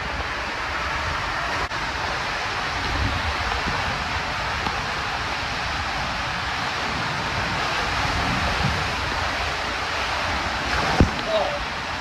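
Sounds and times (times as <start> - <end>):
water rushing down slide tube: 0.0 - 12.0.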